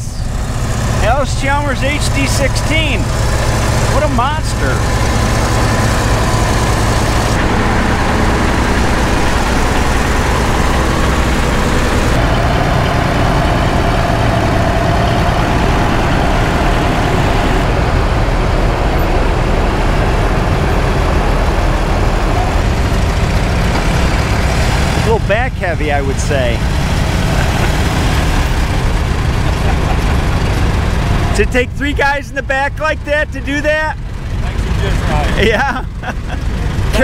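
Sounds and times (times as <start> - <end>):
tractor engines running: 0.0 - 37.0.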